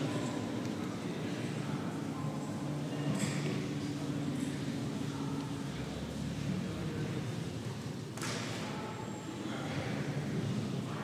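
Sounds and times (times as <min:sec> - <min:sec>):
murmur of people talking: 0:00.0 - 0:11.0.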